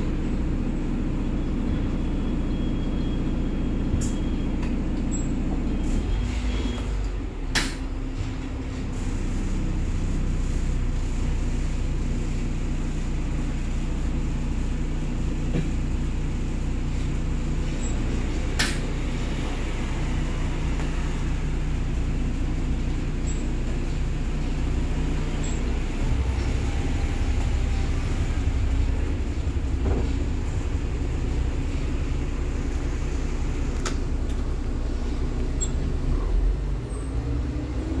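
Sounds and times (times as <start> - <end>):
bus engine rumble: 0.0 - 38.0.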